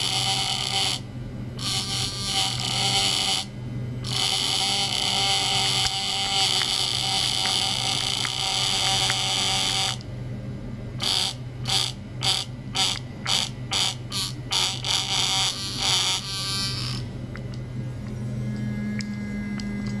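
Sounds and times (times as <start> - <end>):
electric toothbrush buzzing: 0.0 - 10.1, 11.0 - 17.1
steady low hum: 0.0 - 20.0.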